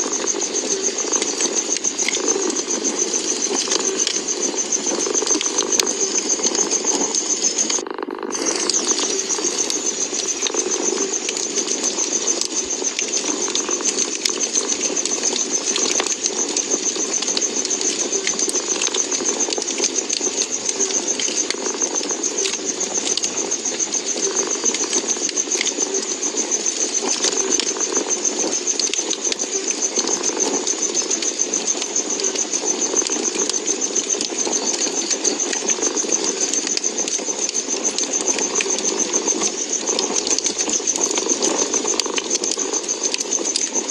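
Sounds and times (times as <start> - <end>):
fireplace crackling: 0.0 - 43.9.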